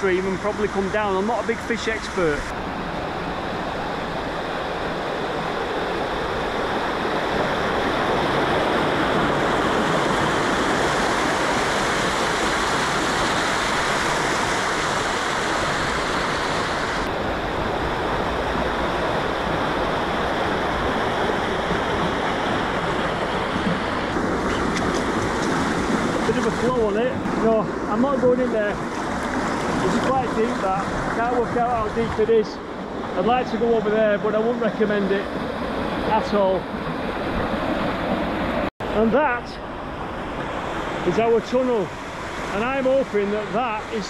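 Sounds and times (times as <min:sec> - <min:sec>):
water rushing over weir: 0:00.0 - 0:44.0.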